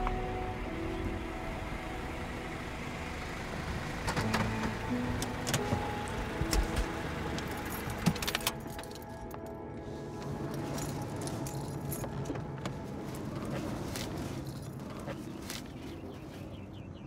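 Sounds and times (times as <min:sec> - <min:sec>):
car pulling up and stopping: 0:00.0 - 0:17.0
soft film score: 0:00.0 - 0:17.0.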